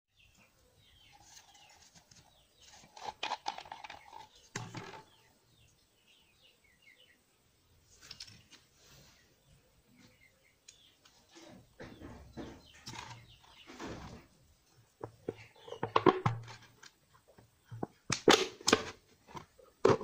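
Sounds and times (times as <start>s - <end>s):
small birds chirping: 0.1s - 18.1s.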